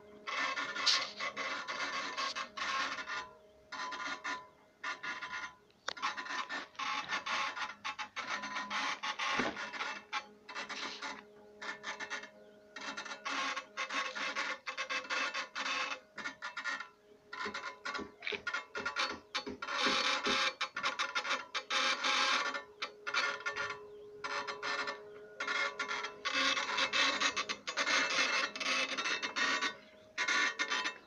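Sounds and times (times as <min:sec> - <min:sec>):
engraving tool rasping stone: 0:00.2 - 0:31.0.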